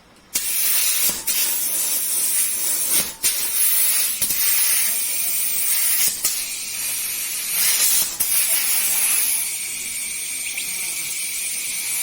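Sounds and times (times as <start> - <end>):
compressed air hissing: 0.4 - 12.0.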